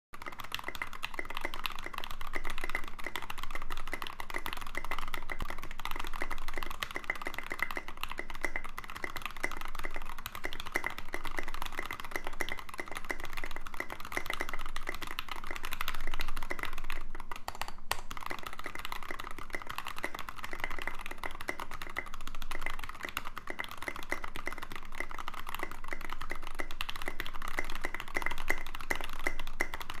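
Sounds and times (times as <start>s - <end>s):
mechanical keyboard typing: 0.2s - 30.0s.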